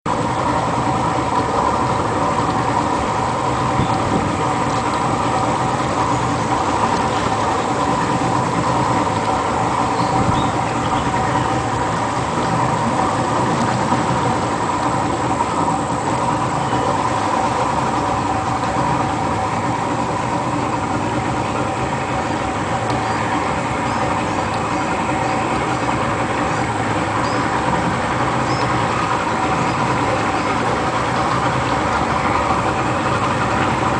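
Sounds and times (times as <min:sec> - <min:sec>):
engine humming steadily: 0:00.1 - 0:33.9.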